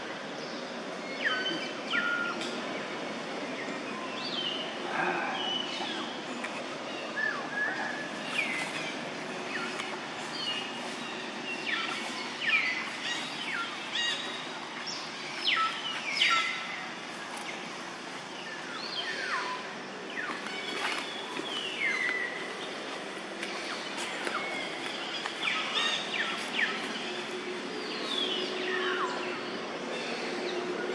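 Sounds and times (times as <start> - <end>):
outdoor background hiss: 0.0 - 30.9
wild birds chirping: 0.3 - 30.9.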